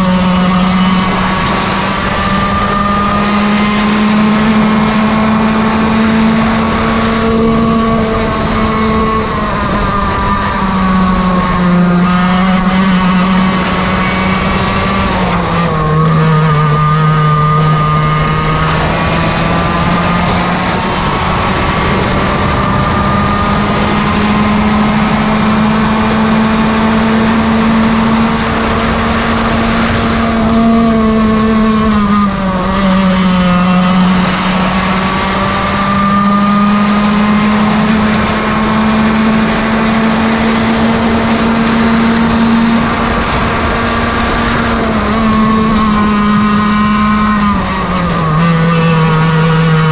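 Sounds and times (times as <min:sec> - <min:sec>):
kart engine revving high: 0:00.0 - 0:49.9.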